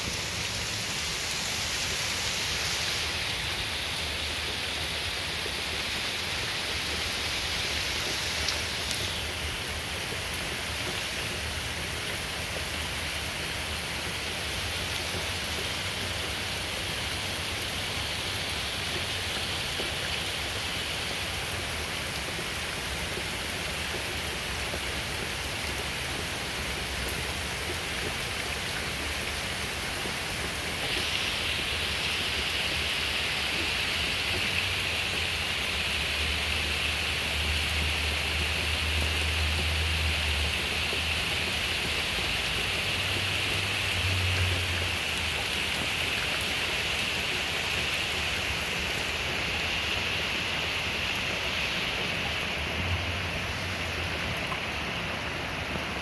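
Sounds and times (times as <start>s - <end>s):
steady rain on trees: 0.0s - 56.0s.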